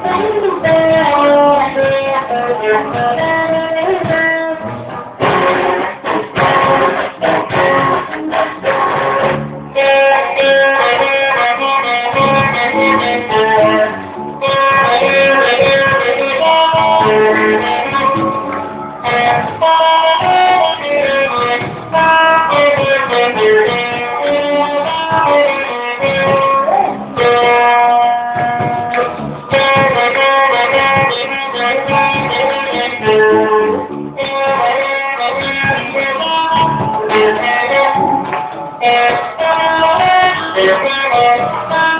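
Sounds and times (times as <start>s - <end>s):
guitar music: 0.0s - 41.9s.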